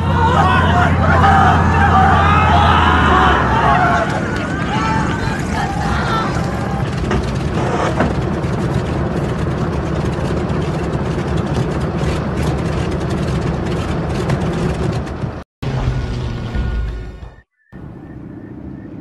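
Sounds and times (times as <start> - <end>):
propeller plane engines rumbling: 0.0 - 16.9, 17.8 - 19.0.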